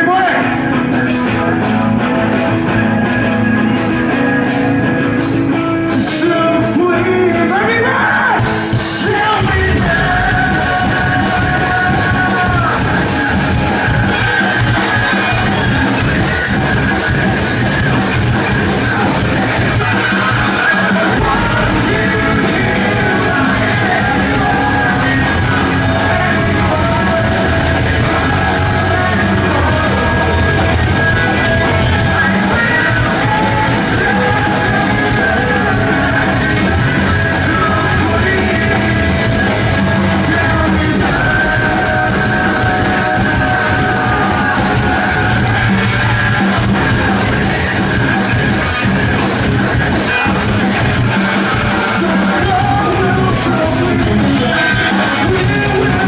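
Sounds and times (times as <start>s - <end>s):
person singing and shouting: 0.0s - 1.7s, 5.9s - 56.0s
live rock band playing: 0.0s - 56.0s.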